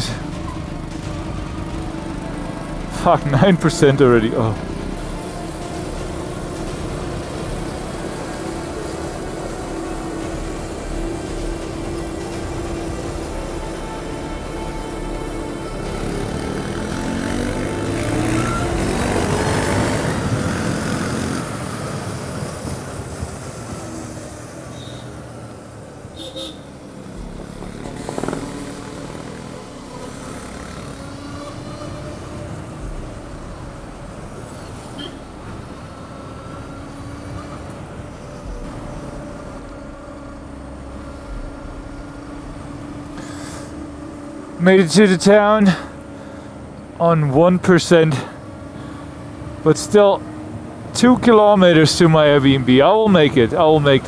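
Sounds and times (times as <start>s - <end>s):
bus engine hum: 0.0s - 54.0s
road rumble: 0.0s - 54.0s
wind: 0.0s - 54.0s.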